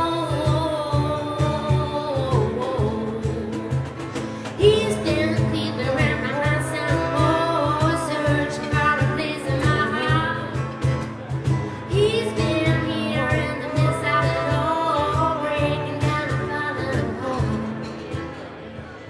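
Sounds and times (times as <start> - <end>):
woman singing: 0.0 - 11.0, 11.7 - 18.0
live band music: 0.0 - 19.0.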